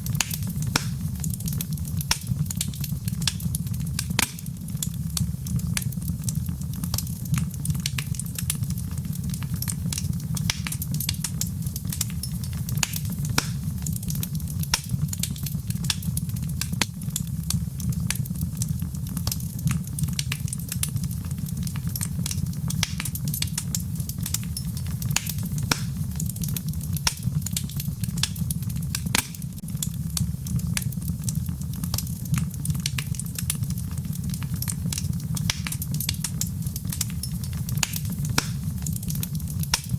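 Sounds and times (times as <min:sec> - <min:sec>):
flames rumbling: 0:00.0 - 0:39.9
wood fire crackling: 0:00.0 - 0:39.9.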